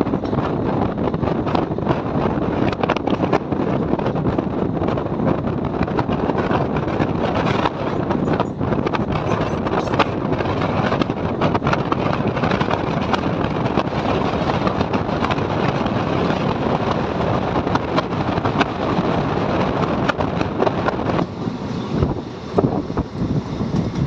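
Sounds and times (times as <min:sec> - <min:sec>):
train wheels on track: 0:00.0 - 0:24.0
wind: 0:00.0 - 0:24.0.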